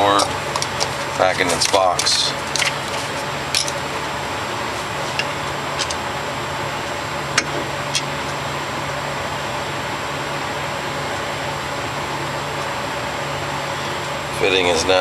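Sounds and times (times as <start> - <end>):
fan humming: 0.0 - 15.0.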